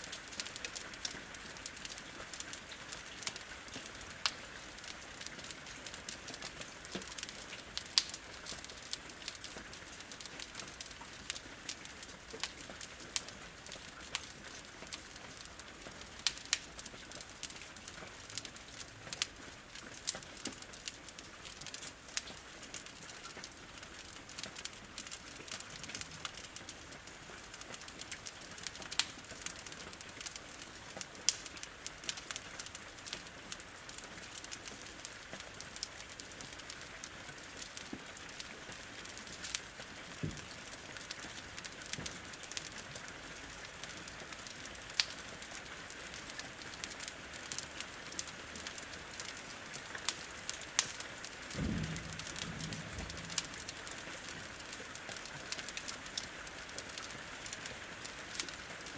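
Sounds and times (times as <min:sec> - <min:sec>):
rain hissing against a window: 0:00.0 - 0:58.9
wood fire crackling: 0:00.1 - 0:58.9.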